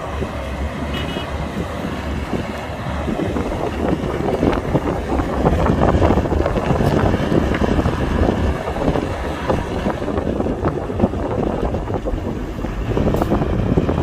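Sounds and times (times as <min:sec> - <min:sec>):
excavator diesel engine: 0:00.0 - 0:14.0
wind noise on microphone: 0:00.0 - 0:14.0.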